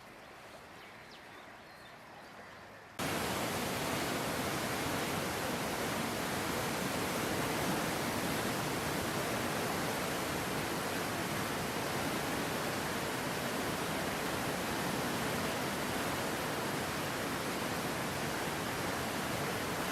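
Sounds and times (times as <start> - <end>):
river rushing: 3.0 - 19.9.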